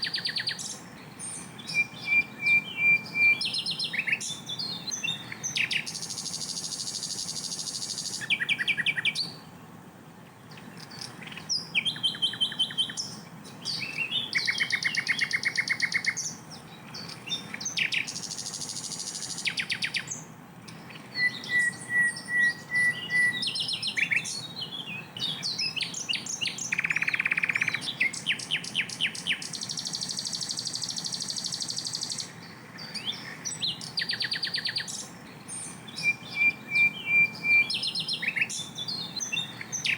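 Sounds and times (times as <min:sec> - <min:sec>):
flycatcher singing trills: 0:00.0 - 0:09.5, 0:10.5 - 0:39.9.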